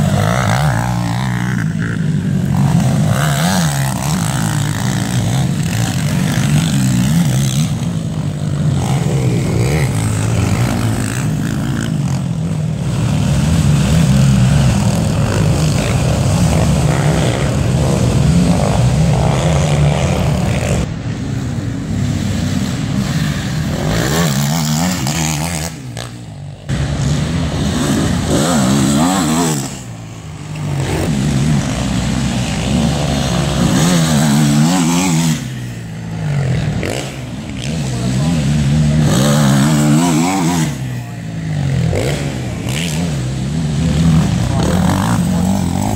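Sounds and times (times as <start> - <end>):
quad bike engines revving: 0.0 - 45.9.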